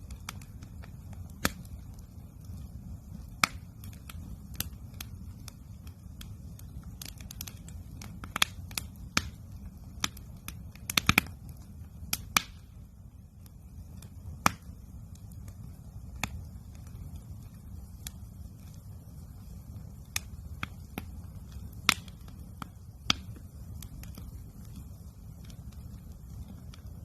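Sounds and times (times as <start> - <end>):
sharp fire pops: 0.0 - 12.8, 13.4 - 27.0
campfire crackling: 0.0 - 27.0
low fire rumble: 0.0 - 27.0.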